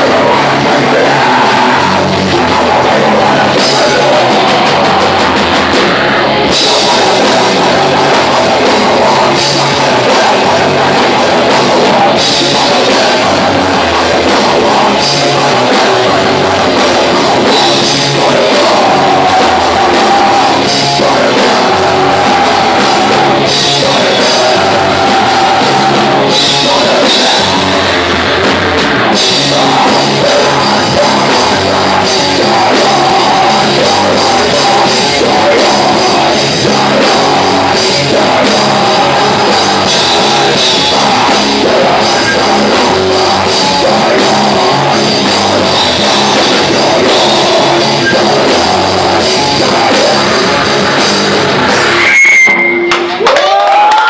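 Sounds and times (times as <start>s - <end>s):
heavy metal band playing: 0.0s - 54.0s
person singing: 0.0s - 54.0s.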